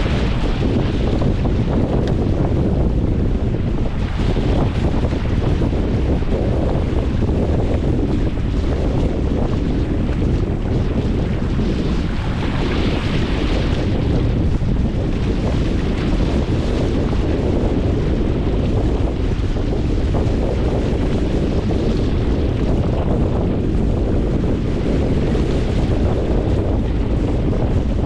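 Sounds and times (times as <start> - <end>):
sea water rushing: 0.0 - 28.0
wind buffeting microphone: 0.0 - 28.0.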